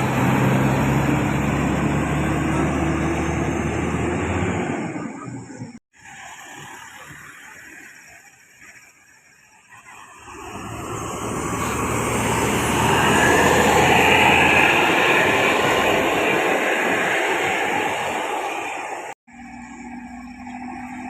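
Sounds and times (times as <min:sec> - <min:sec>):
bus passing: 0:00.0 - 0:21.0.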